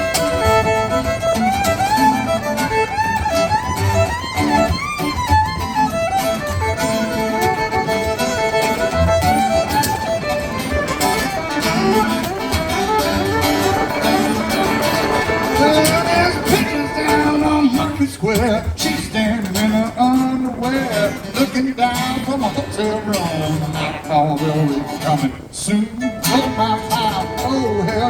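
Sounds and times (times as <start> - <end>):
fiddle playing a melody: 0.0 - 28.0
guitar accompaniment: 0.0 - 28.0.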